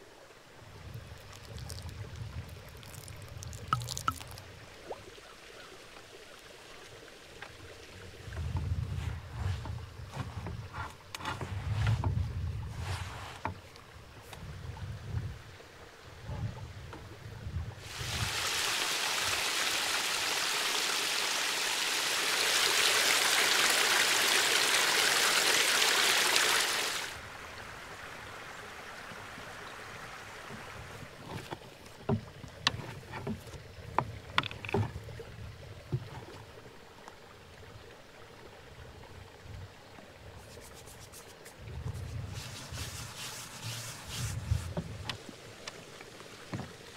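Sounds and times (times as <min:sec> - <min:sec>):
water rushing stream: 0:00.0 - 0:46.9.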